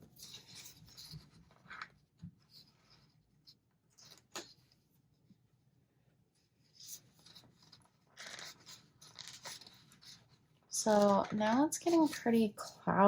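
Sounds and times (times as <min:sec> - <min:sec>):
soft paper rustles: 0:00.0 - 0:05.5, 0:06.2 - 0:13.0.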